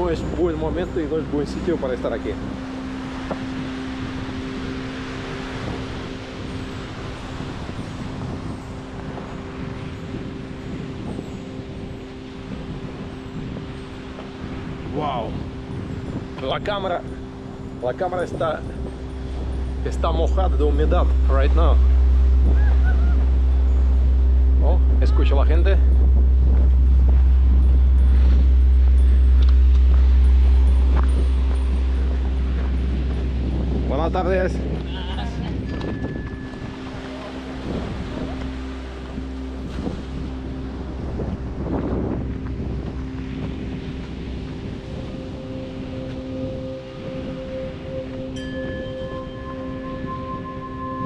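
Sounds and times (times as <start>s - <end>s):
steady low hum: 0.0s - 51.0s
wind buffeting microphone: 0.0s - 51.0s.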